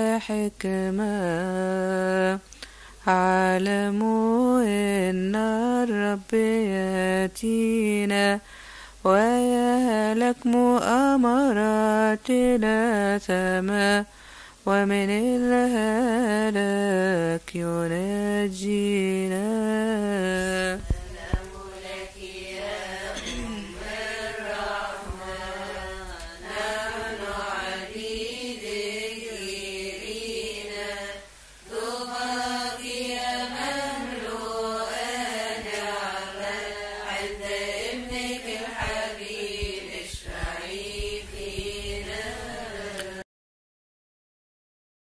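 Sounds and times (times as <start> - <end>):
woman chanting a hymn: 0.0 - 2.4, 3.0 - 43.2.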